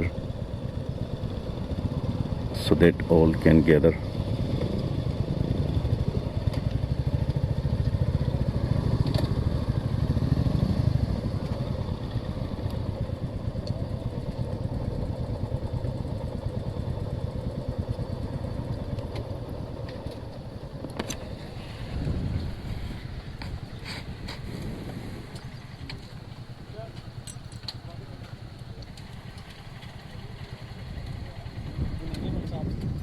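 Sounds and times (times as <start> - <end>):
motorcycle engines rumbling: 0.0 - 33.0.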